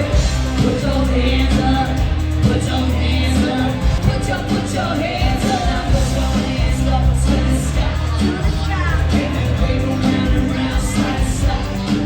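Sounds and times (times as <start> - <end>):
bass line: 0.0 - 12.0
pop song with lead singer: 0.0 - 12.0.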